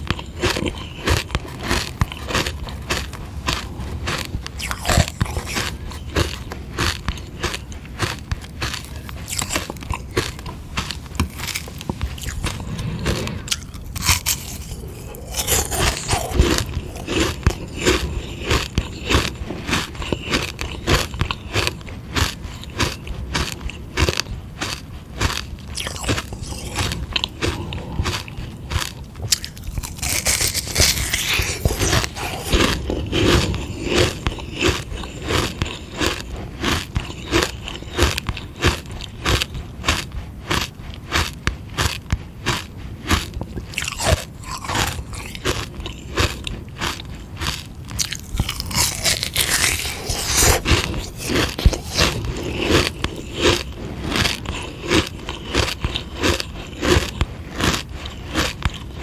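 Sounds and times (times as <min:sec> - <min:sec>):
ice lolly being crunched: 0:00.0 - 0:21.8, 0:25.7 - 0:39.5, 0:43.7 - 0:59.0.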